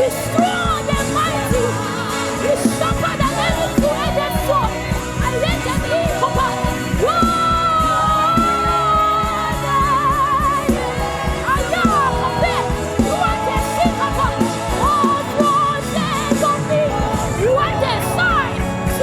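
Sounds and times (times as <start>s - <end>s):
keyboard chords: 0.0s - 19.0s
person singing with vibrato: 0.0s - 19.0s.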